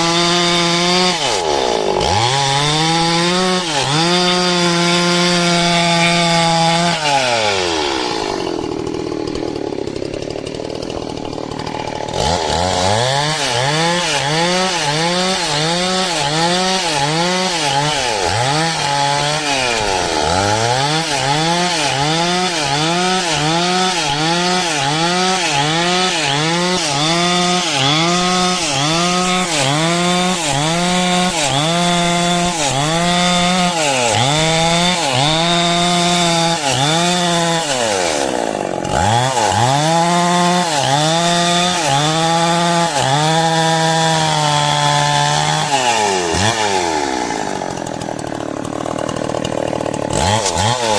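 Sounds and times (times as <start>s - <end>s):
chainsaw sawing a log: 0.0s - 50.9s.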